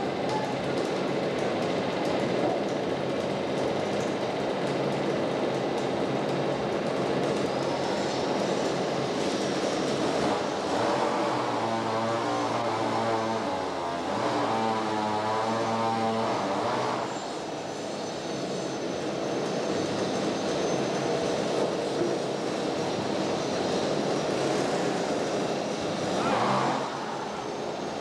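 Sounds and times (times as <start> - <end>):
noisy machine drone: 0.0 - 28.0.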